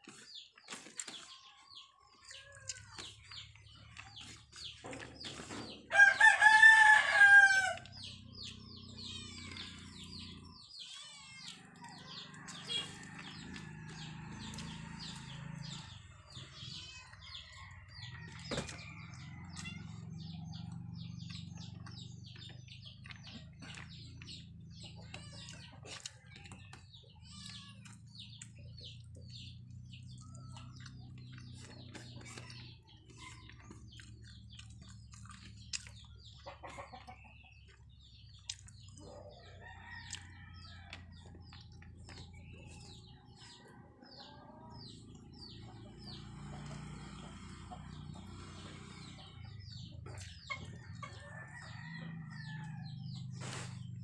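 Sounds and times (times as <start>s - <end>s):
chewing and lip smacking: 0.0s - 5.5s, 7.8s - 44.0s, 45.0s - 52.5s
chickens clucking: 0.0s - 54.0s.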